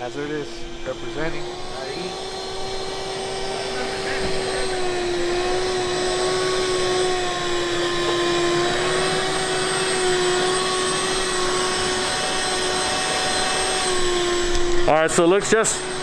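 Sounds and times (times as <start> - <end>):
whining machine drone: 0.0 - 16.0.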